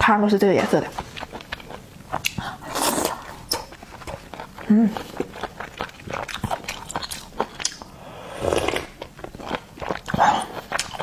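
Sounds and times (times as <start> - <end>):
seafood being chewed: 0.7 - 11.0.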